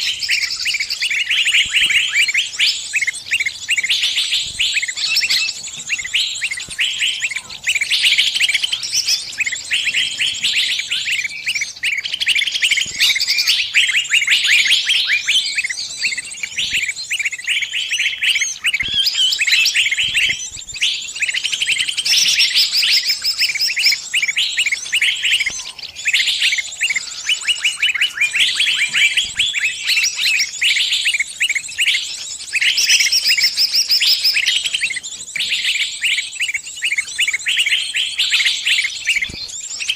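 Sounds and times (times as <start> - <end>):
small bird chirping distress calls: 0.0 - 39.9.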